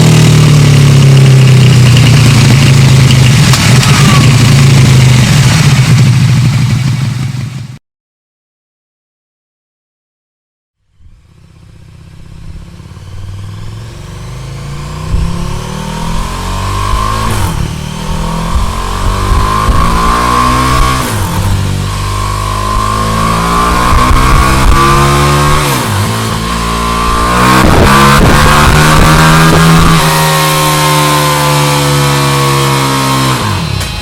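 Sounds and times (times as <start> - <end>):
motorcycle engine accelerating: 0.0 - 7.8, 10.9 - 34.0.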